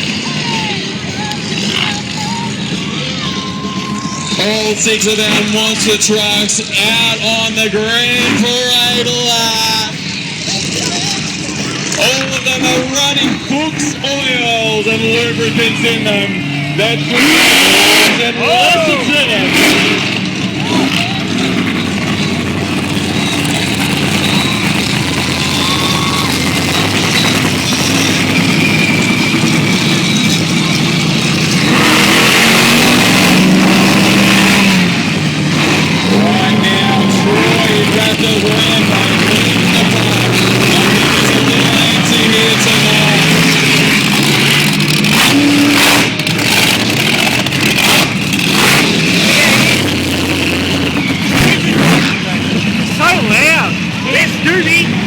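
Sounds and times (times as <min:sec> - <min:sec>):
monster truck engines rumbling: 0:00.0 - 0:55.0.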